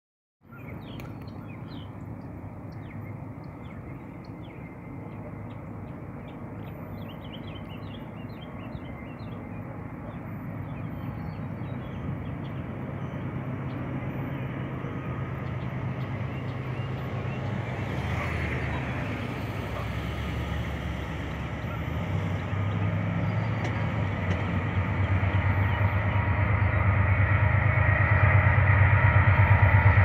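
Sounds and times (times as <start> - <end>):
songbirds chirping: 0.4 - 27.3
diesel locomotive rumble: 0.5 - 30.0.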